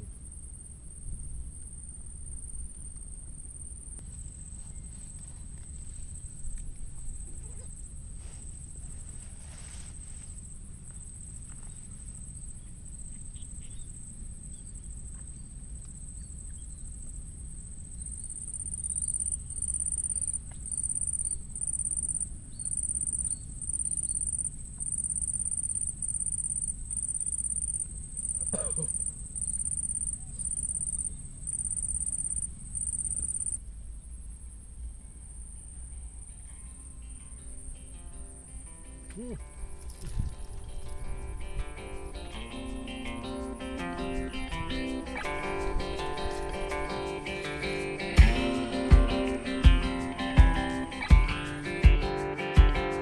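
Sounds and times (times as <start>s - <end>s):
low steady background rumble: 0.0s - 46.3s
insects trilling: 0.0s - 53.0s.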